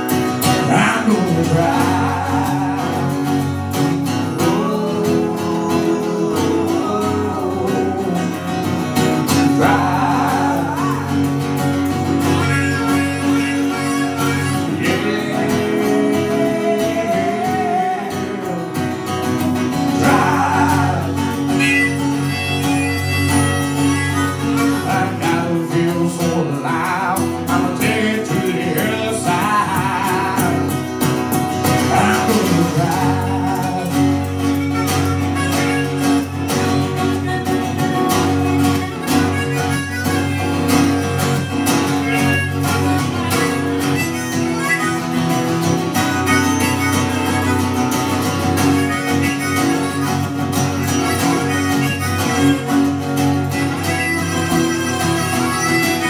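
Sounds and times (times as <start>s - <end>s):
acoustic guitar country song: 0.0s - 56.0s.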